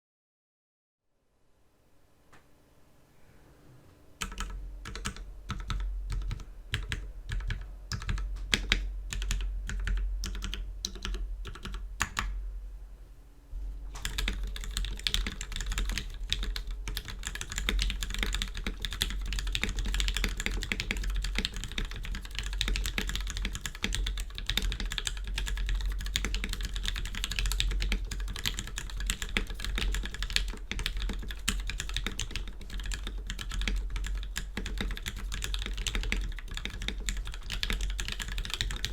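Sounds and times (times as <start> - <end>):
mechanical keyboard typing: 4.2 - 12.3, 14.0 - 38.9.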